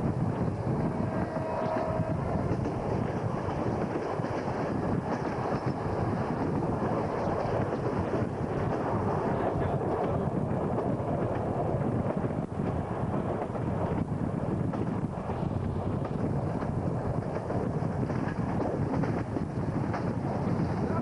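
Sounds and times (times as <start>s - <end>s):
train running noise: 0.0s - 21.0s
wind buffeting microphone: 0.0s - 21.0s.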